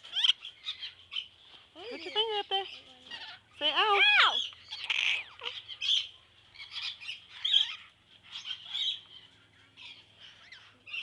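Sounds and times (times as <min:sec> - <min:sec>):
parakeets chirping: 0:00.0 - 0:01.3, 0:01.9 - 0:11.0.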